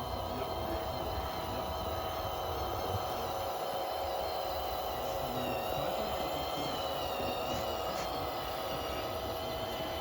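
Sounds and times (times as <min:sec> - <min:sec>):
small electric motors whining: 0:00.0 - 0:10.0.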